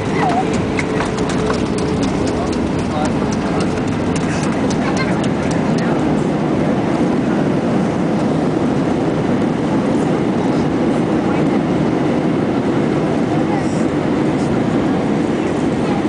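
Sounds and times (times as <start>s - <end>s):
jet engines and runway rumble: 0.0s - 16.0s.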